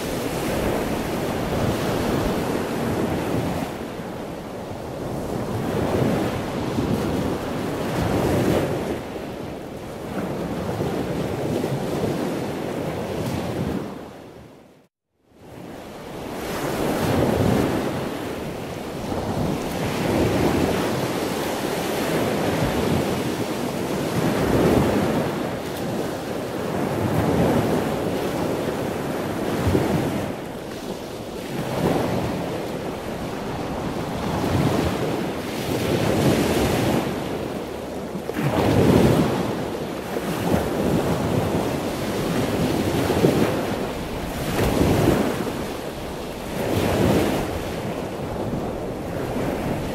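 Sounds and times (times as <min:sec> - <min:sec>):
sea water splashing along hull: 0:00.0 - 0:14.1, 0:15.7 - 0:49.9
wind buffeting microphone: 0:00.0 - 0:14.5, 0:15.4 - 0:49.9.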